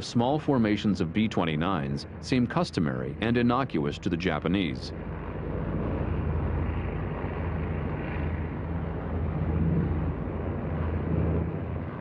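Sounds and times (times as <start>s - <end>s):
propeller aircraft droning: 0.0s - 12.0s.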